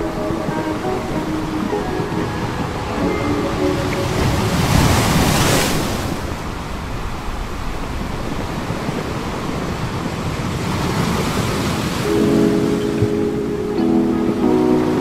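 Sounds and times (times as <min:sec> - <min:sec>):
surf washing onto beach: 0:00.0 - 0:15.0
wave breaking: 0:00.0 - 0:15.0.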